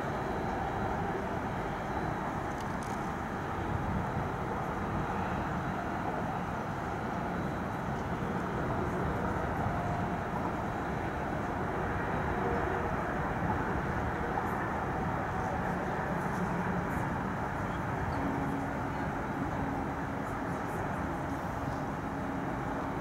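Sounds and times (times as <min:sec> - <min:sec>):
distant city traffic hum: 0:00.0 - 0:23.0.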